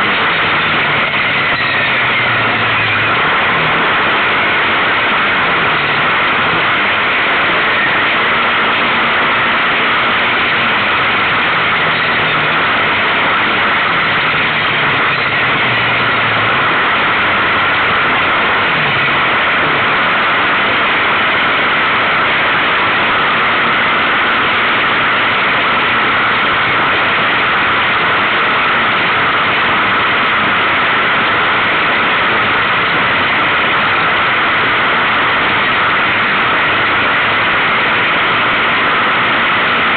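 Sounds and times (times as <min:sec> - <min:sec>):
quad bike engine running: 0:00.0 - 0:39.9
wind and road noise: 0:00.0 - 0:39.9.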